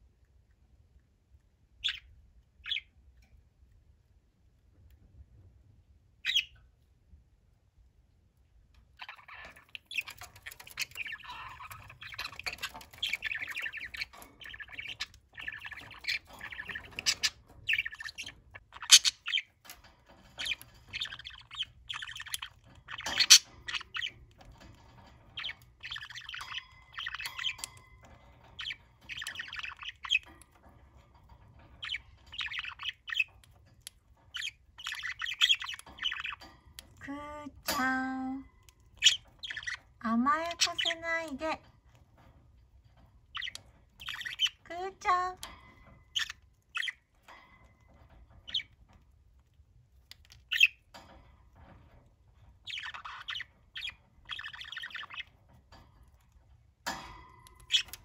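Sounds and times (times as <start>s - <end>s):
parrots chirping and squawking: 1.8s - 2.9s, 6.2s - 6.6s, 8.9s - 58.0s.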